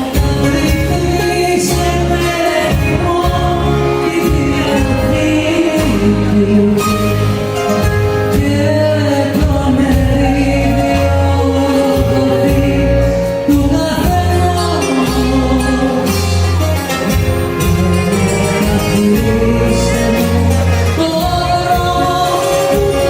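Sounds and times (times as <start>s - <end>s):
bass notes: 0.0s - 23.0s
live band playing popular song: 0.0s - 23.0s.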